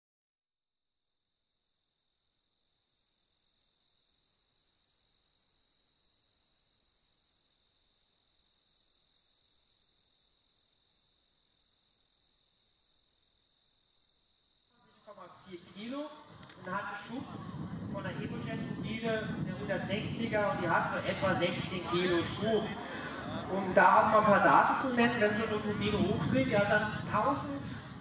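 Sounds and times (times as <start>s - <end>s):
crickets chirping: 0.8s - 28.0s.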